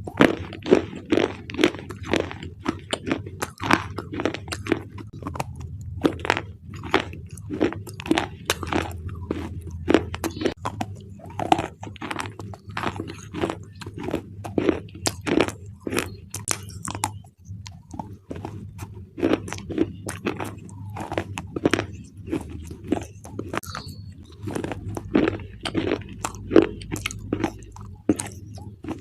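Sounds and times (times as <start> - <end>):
crisp chewing crunches: 0.0 - 29.0
faint low hum: 0.0 - 29.0.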